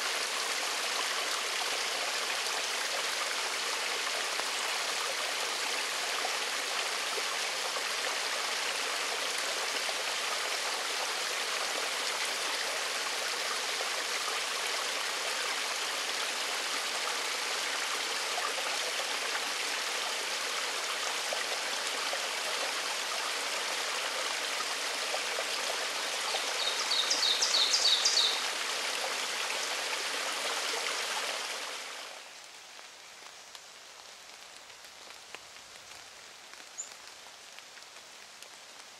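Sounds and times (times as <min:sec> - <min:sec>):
stream trickling over rocks: 0:00.0 - 0:38.9.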